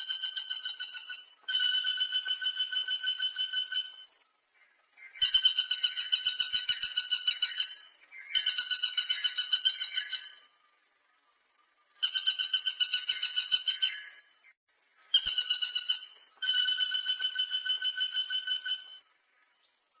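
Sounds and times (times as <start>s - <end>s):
woodpecker calling: 0.0s - 10.6s, 12.0s - 19.7s.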